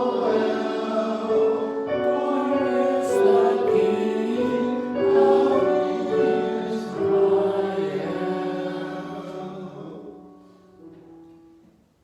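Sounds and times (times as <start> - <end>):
hymn sung with accompaniment: 0.0 - 10.8.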